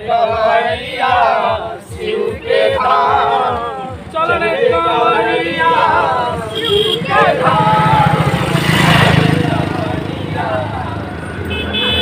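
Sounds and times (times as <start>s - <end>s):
steady beat: 0.0s - 10.9s.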